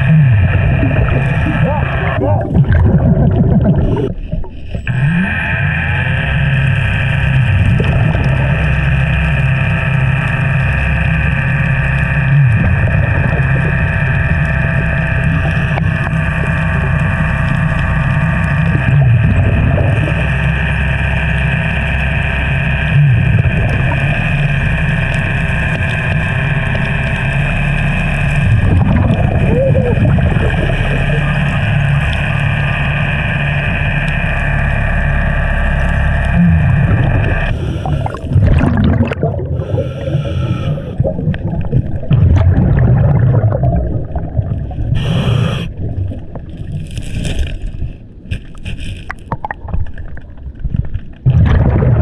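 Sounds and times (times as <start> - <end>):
motor drone with fixed tones: 0.0 - 3.0, 3.8 - 38.6, 39.4 - 42.2, 44.1 - 46.6.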